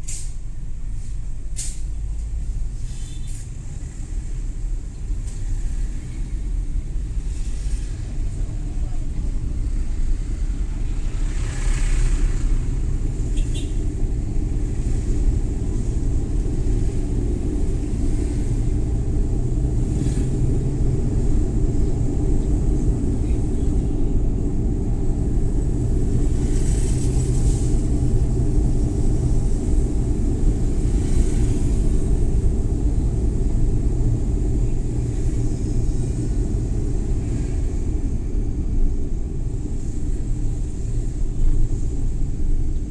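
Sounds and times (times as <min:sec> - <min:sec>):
passing traffic hissing: 0:00.0 - 0:42.9
van engine and tyres rumbling: 0:00.0 - 0:42.9.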